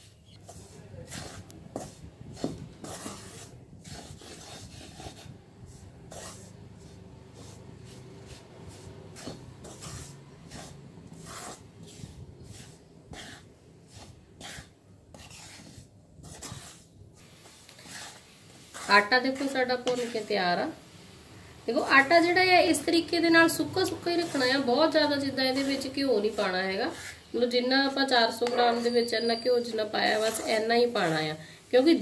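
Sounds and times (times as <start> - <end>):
wooden spatula scraping flour: 0.0 - 20.9, 21.7 - 32.0.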